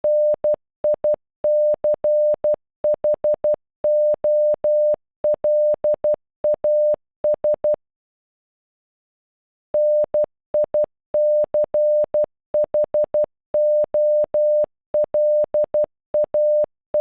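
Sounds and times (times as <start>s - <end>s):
morse code beep tone: 0.0s - 7.8s, 9.8s - 17.0s.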